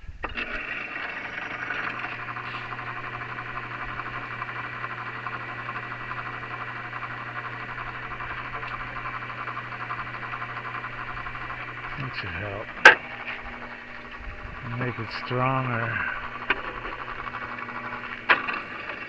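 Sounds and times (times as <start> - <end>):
drill press motor hum: 0.0 - 19.0
drive belts fluttering: 0.0 - 19.0.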